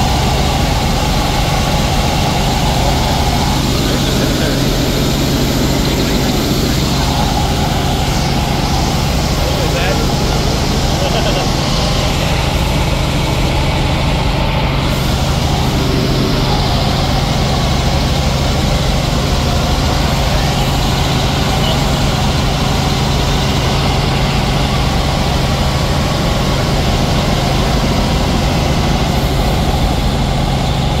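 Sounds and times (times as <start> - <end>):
helicopter engine and rotor drone: 0.0 - 31.0.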